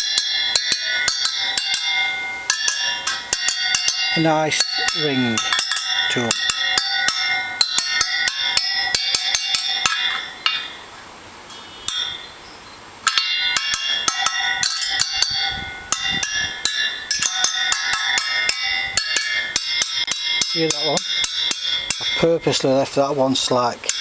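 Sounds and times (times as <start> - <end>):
metal tool tapping ringing spokes: 0.0 - 12.4, 13.0 - 24.0.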